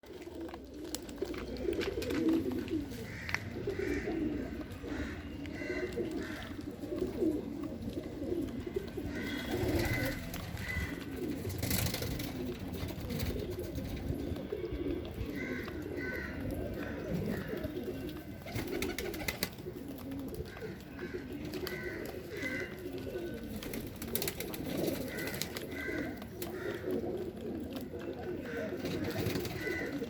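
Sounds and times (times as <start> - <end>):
pigeons cooing: 0.1 - 30.0.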